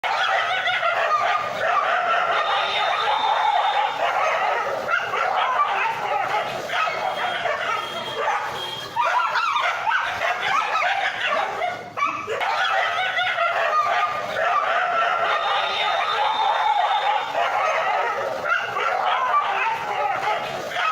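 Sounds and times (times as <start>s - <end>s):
dogs barking and yelping: 0.0s - 20.9s.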